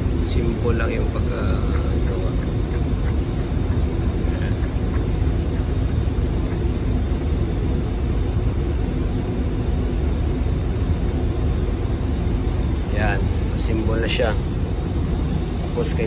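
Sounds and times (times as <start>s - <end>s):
low mechanical rumble: 0.0s - 16.0s
ventilation machinery hum: 0.0s - 16.0s.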